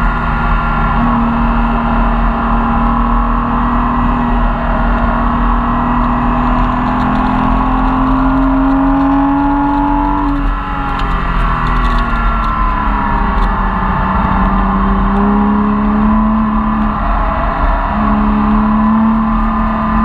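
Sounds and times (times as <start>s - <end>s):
car engine pulling under throttle: 0.0s - 20.0s
tyre and wind noise: 0.0s - 20.0s.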